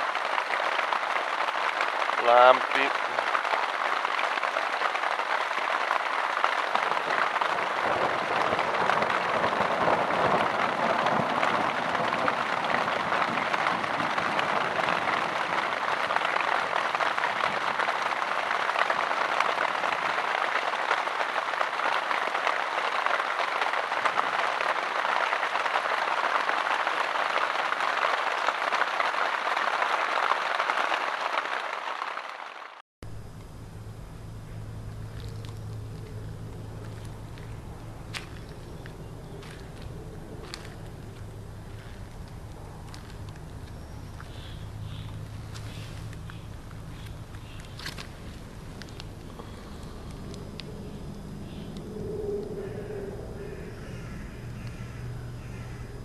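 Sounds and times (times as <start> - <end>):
heavy rain on a tent: 0.0 - 33.8, 34.6 - 51.8.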